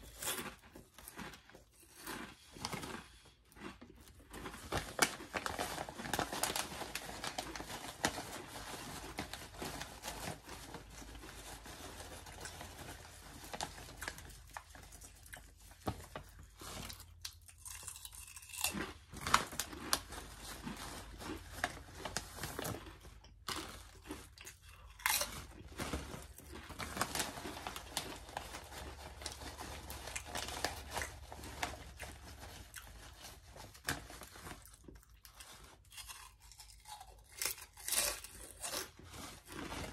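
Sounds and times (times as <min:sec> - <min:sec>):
person chewing crunchy chips: 0:00.0 - 0:39.9.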